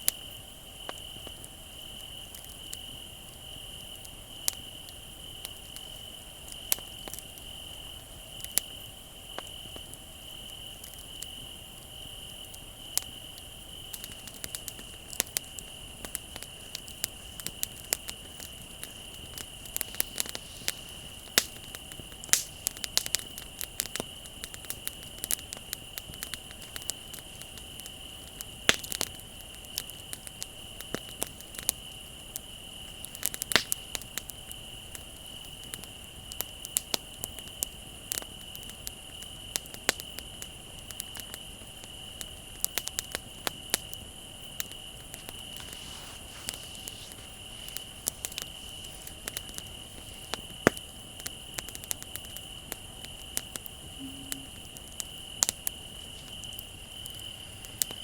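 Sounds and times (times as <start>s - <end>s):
crickets chirping: 0.0s - 58.0s
wood fire crackling: 0.0s - 58.0s.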